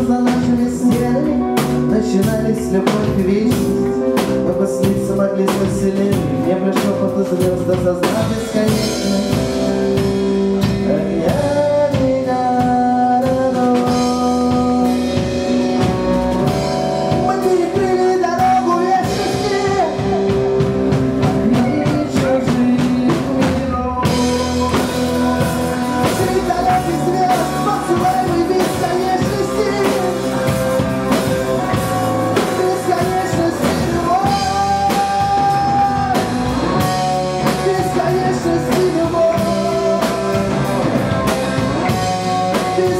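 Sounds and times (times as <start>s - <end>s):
bass guitar: 0.0s - 42.9s
drum kit: 0.0s - 42.9s
electric guitar lead: 0.0s - 42.9s.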